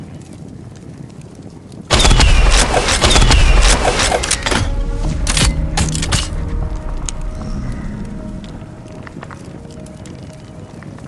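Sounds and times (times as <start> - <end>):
low rumble: 2.0 - 11.0.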